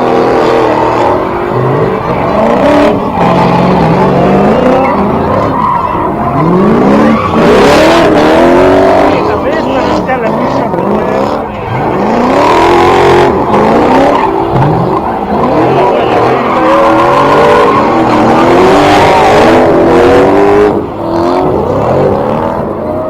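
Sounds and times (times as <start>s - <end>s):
car engine revving hard: 0.0s - 23.0s
tyres squealing: 0.0s - 23.0s.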